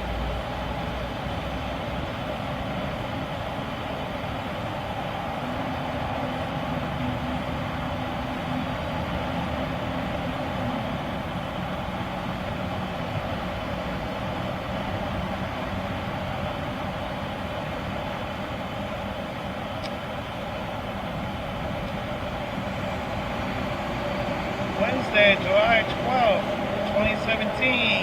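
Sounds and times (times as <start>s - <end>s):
freight train passing: 0.0s - 28.0s
low engine tone: 0.0s - 28.0s.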